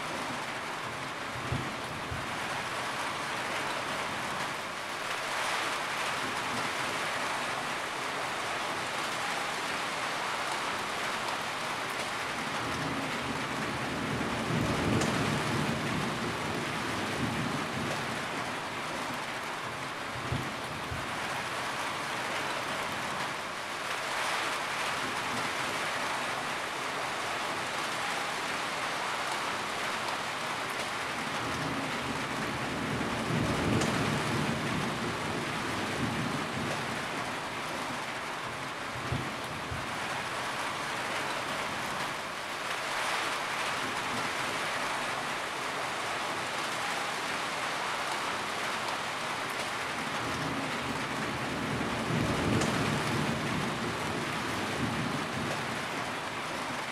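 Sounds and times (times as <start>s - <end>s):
heavy rain on a roof: 0.0s - 56.9s.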